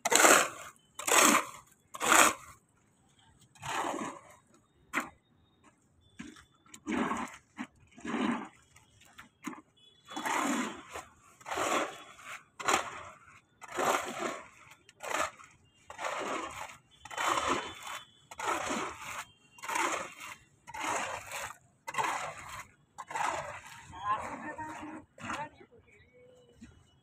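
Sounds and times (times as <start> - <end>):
shovel scraping wet concrete: 0.0 - 2.7, 3.4 - 5.2, 6.0 - 25.6.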